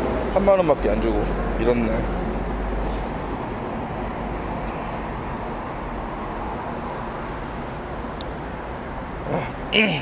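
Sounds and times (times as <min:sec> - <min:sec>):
passing cars rushing: 0:00.0 - 0:10.0.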